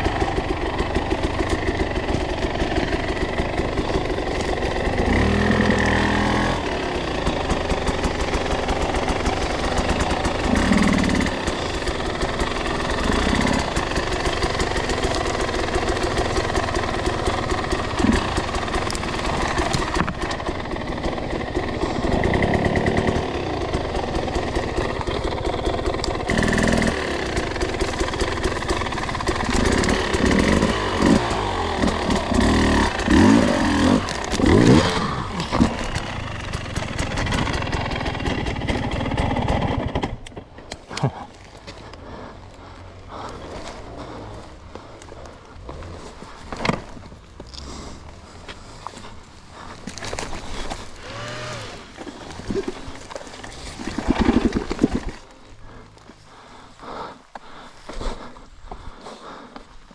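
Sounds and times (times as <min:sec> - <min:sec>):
dirt bike engine lugging: 0:00.0 - 0:59.4.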